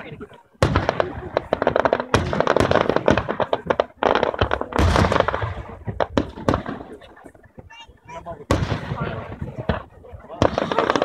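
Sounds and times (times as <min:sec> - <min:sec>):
fireworks crackling bangs: 0:00.0 - 0:11.0
heavy fireworks booms: 0:00.0 - 0:11.0.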